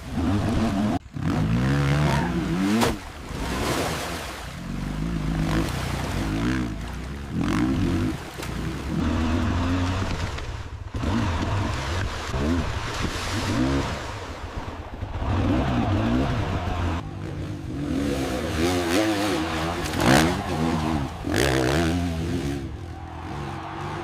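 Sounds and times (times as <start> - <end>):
dirt bike engine revving: 0.0 - 3.6, 4.6 - 14.2, 15.0 - 24.0.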